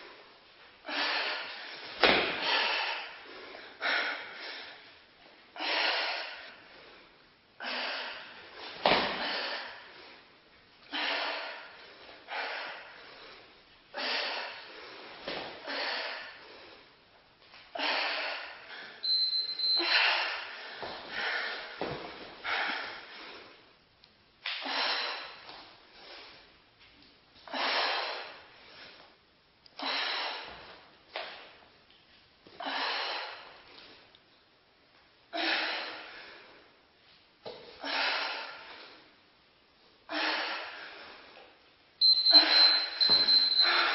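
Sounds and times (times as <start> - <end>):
woman breathing hard: 0.0 - 23.7, 24.5 - 26.6, 27.4 - 31.5, 32.6 - 34.2, 35.2 - 36.9, 37.8 - 39.3, 40.0 - 43.9.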